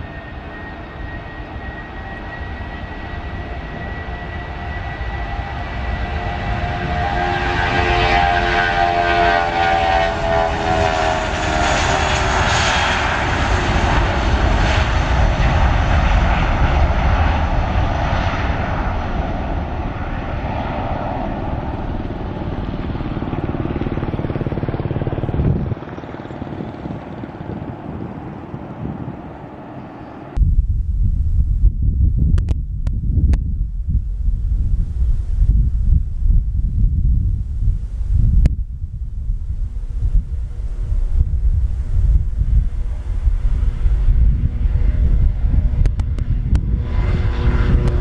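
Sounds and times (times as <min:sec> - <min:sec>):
airliner passing close by: 0:00.0 - 0:48.0.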